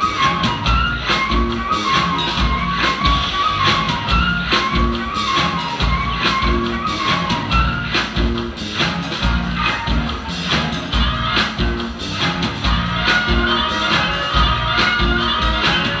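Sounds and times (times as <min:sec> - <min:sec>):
bass line: 0:00.0 - 0:16.0
live band playing: 0:00.0 - 0:16.0.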